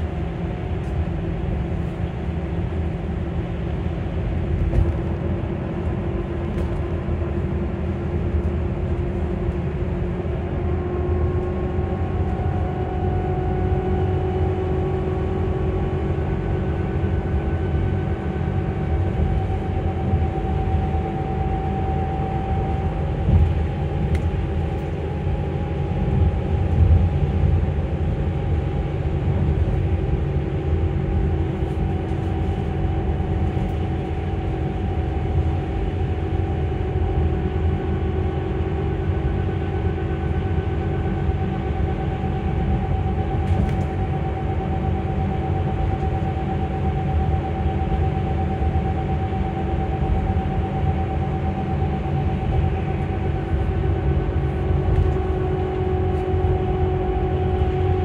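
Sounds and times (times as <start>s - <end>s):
low road rumble: 0.0s - 58.0s.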